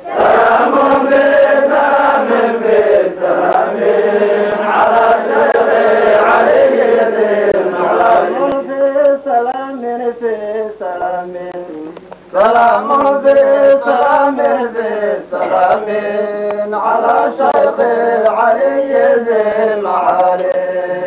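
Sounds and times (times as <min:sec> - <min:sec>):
men chanting: 0:00.0 - 0:11.4, 0:12.4 - 0:21.0.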